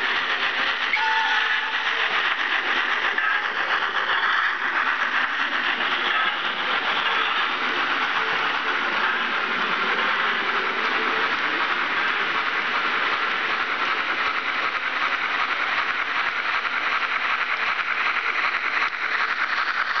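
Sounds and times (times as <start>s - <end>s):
model steam locomotive chuffing: 0.0s - 20.0s.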